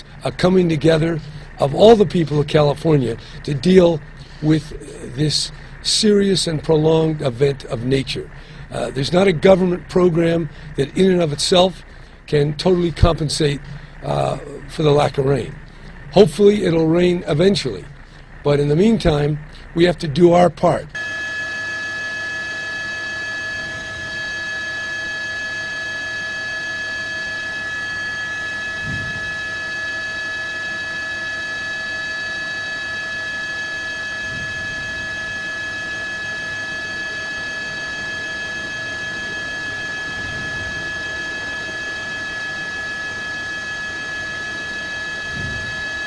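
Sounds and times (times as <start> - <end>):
steady multi-pitch tone: 0.0 - 46.0.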